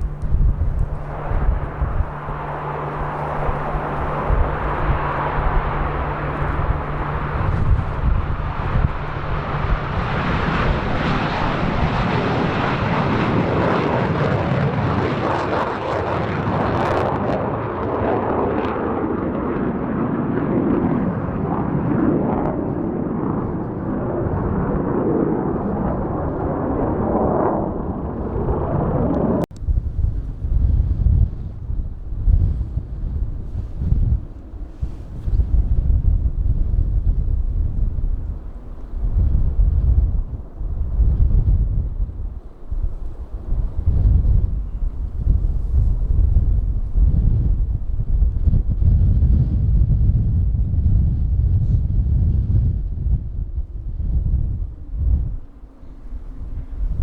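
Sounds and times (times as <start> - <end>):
jet engine roaring: 0.0 - 49.2
wind buffeting microphone: 0.0 - 57.0.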